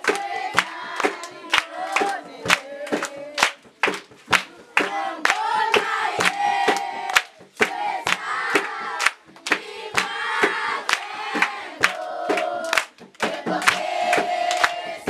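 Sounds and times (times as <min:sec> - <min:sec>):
group singing together: 0:00.0 - 0:15.0
rhythmic hand clapping: 0:00.0 - 0:15.0.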